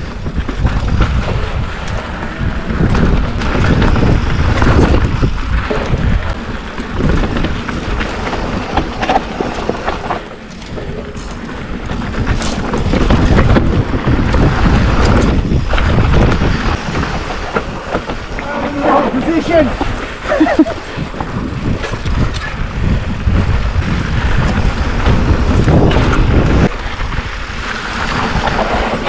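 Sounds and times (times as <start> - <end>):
bike knocking and rattling: 0.0 - 29.0
tyres rumbling on dirt: 0.0 - 29.0
wind on microphone: 0.0 - 29.0.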